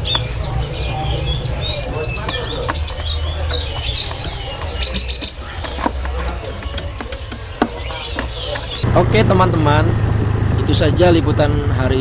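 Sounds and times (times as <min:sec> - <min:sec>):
birds chirping and whistling: 0:00.0 - 0:11.2.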